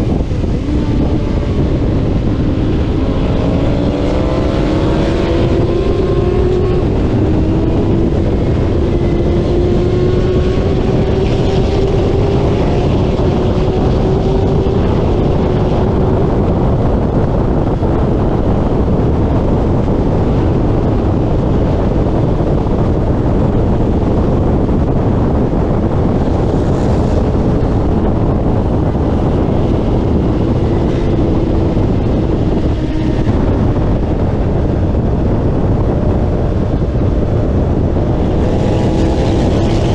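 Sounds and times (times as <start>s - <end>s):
racing motorcycle engine: 0.0s - 39.9s
wind rushing on microphone: 0.0s - 39.9s.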